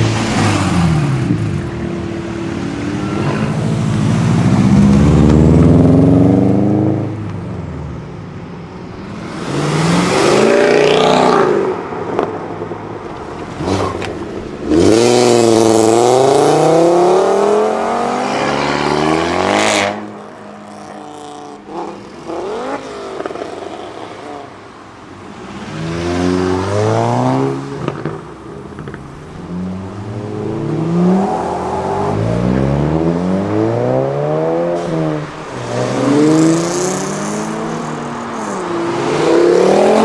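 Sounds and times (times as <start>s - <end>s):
cars accelerating hard: 0.0s - 8.0s, 9.0s - 12.4s, 13.0s - 24.5s, 25.2s - 40.0s.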